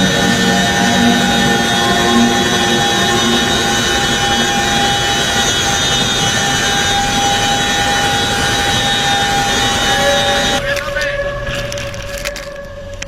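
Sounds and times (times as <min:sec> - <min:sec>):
loud rushing noise: 0:00.0 - 0:12.1
helicopter engines whining: 0:00.0 - 0:13.0.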